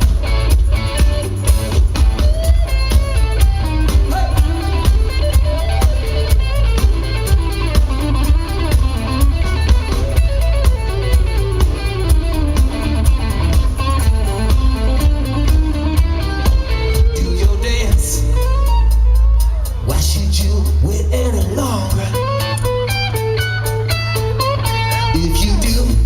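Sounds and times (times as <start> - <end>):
lead guitar line: 0.0 - 26.0
live rock band playing: 0.0 - 26.0.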